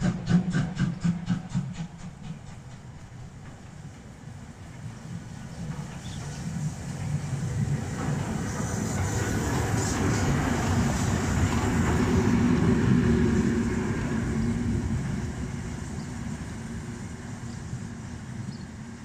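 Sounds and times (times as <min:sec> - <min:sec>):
steam locomotive rolling past: 0:00.0 - 0:19.0.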